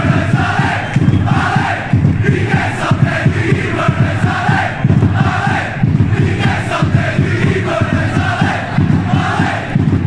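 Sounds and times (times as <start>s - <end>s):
crowd singing a chant: 0.0s - 10.0s.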